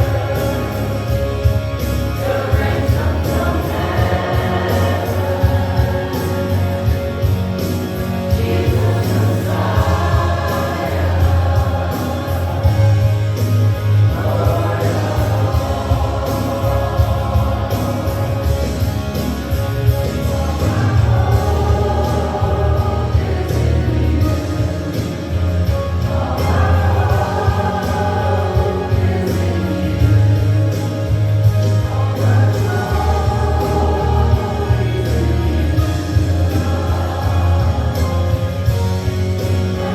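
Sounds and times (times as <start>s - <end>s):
group singing gospel song: 0.0s - 39.9s
instrumental accompaniment with bass: 0.0s - 39.9s.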